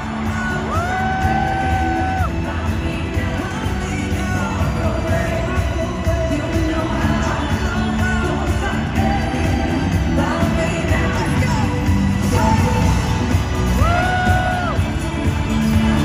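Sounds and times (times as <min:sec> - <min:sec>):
crowd noise: 0:00.0 - 0:16.0
live pop music: 0:00.0 - 0:16.0
person singing: 0:00.0 - 0:16.0.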